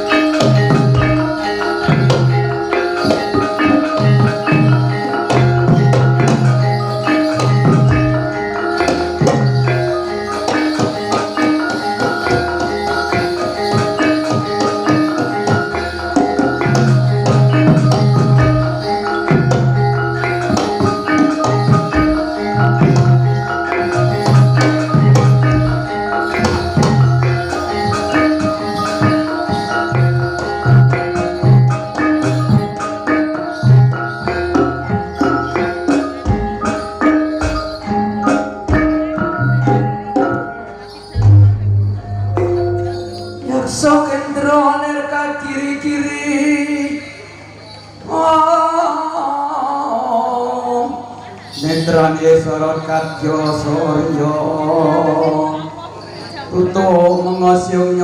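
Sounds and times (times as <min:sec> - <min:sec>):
percussion strokes: 0:00.0 - 0:48.9, 0:51.1 - 0:58.0
metal keyed instruments ringing: 0:00.0 - 0:49.2, 0:51.1 - 0:58.0
gamelan music: 0:00.0 - 0:58.0.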